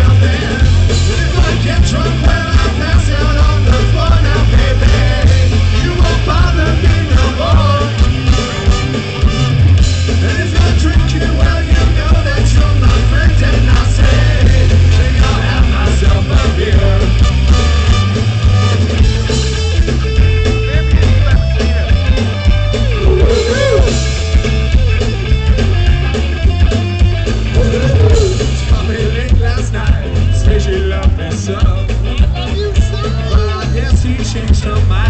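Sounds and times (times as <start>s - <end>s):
live ska-punk band playing: 0.0s - 35.0s.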